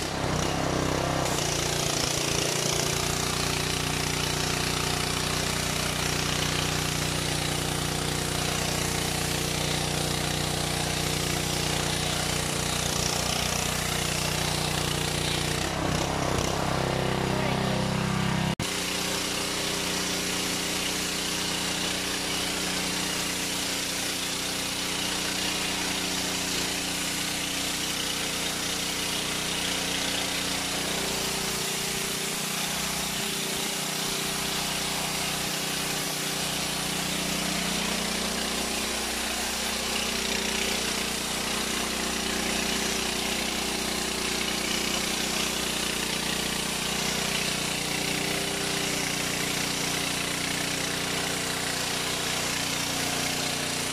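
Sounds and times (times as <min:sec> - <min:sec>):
water jet hissing on tiles: 0:00.0 - 0:17.9, 0:18.6 - 0:53.9
pressure washer engine drone: 0:00.0 - 0:53.9.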